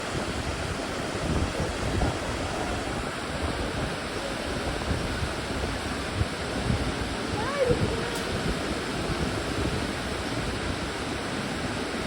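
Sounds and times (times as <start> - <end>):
water flowing: 0.0 - 12.0
wind on microphone: 0.0 - 12.0.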